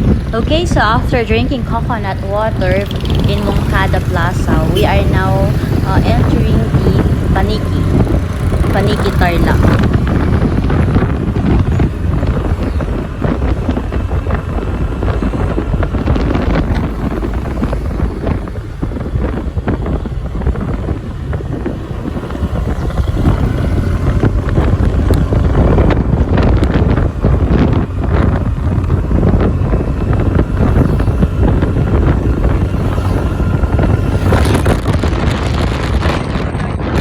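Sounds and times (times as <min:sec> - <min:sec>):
road noise: 0:00.0 - 0:37.0
scooter engine running: 0:00.0 - 0:37.0
wind buffeting microphone: 0:00.0 - 0:37.0.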